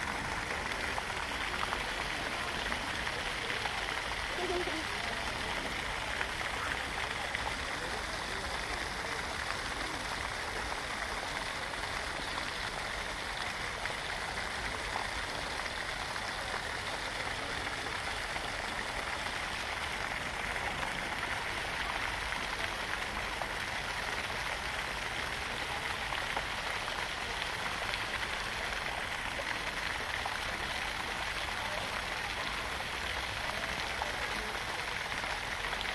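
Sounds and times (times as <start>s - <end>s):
splashing water: 0.0s - 35.9s.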